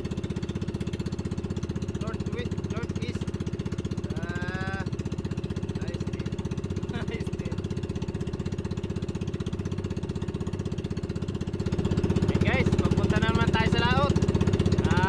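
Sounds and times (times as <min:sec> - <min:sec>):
small boat engine chugging: 0:00.0 - 0:15.0.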